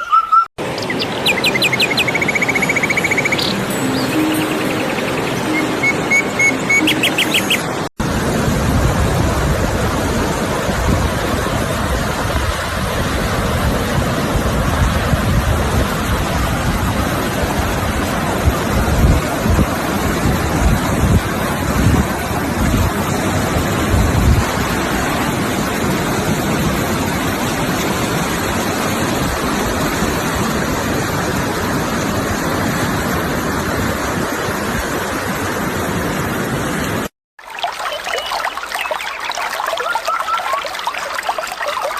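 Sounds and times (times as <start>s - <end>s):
sea surf rushing: 0.6s - 37.1s.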